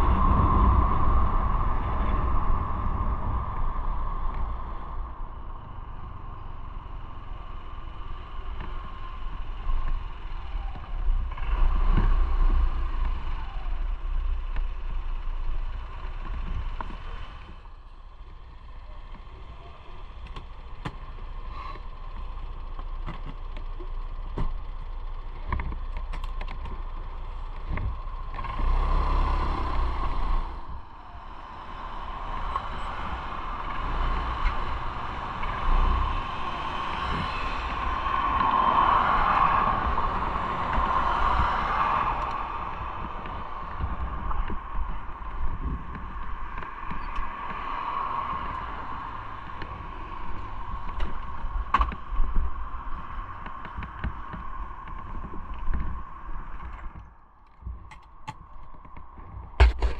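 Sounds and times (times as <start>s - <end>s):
wind noise: 0.0s - 17.7s, 27.6s - 59.9s
motorcycle running: 0.0s - 59.9s.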